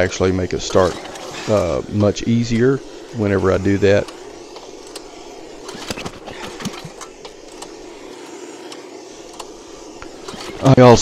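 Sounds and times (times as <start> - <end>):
steady hiss: 0.0 - 11.0
recoil starter pull: 0.6 - 11.0.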